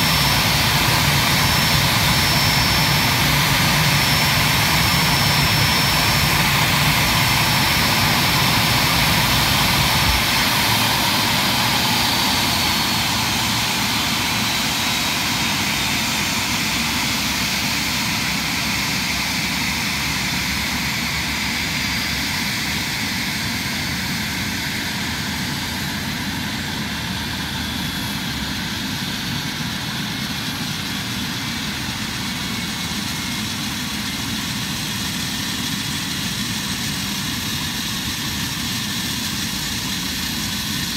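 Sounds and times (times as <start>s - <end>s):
jet engines idling: 0.0s - 40.9s.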